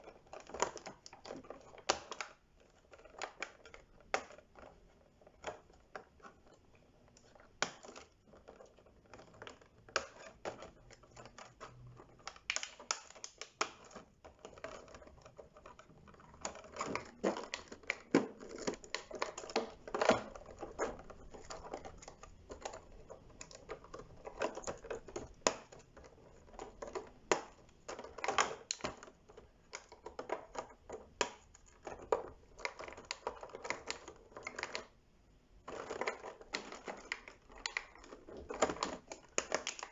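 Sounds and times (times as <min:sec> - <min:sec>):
packaging rustling: 0:00.0 - 0:34.9
toy packaging clicks and taps: 0:00.0 - 0:39.9.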